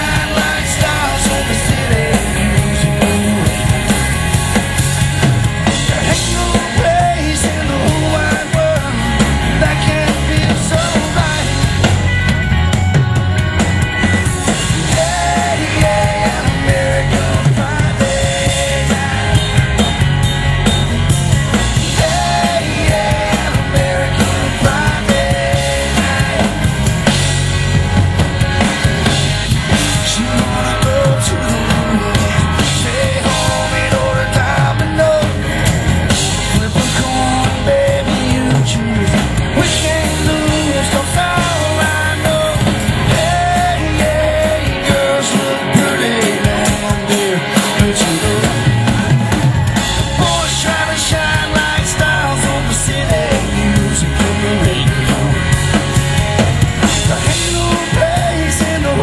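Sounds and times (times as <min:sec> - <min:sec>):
male lead vocal: 0:00.0 - 0:12.1, 0:14.3 - 0:27.4, 0:29.0 - 0:59.0
bass: 0:00.0 - 0:59.0
drum kit: 0:00.0 - 0:59.0
electric guitar: 0:00.0 - 0:59.0
keyboard: 0:00.0 - 0:59.0.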